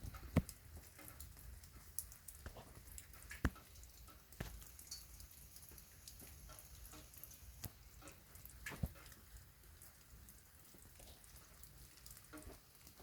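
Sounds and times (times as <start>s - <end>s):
raindrops tapping on a surface: 0.0s - 13.0s
soft rain: 0.0s - 13.0s.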